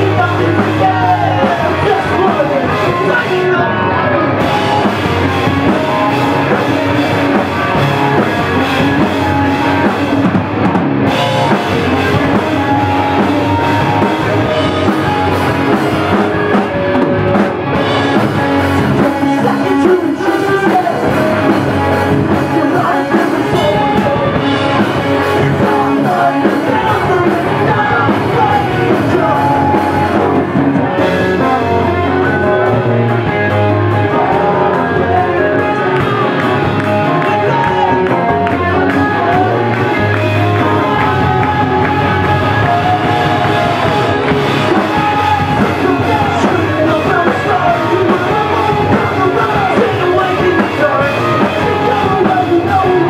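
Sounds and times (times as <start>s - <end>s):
man singing: 0.0s - 10.4s, 11.1s - 53.0s
drum kit: 0.0s - 53.0s
electric guitars: 0.0s - 53.0s.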